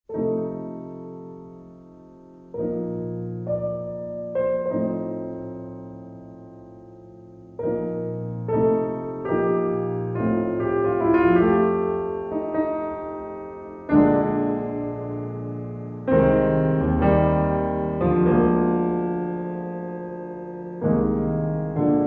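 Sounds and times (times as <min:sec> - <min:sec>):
slow piano chords: 0:00.1 - 0:22.0.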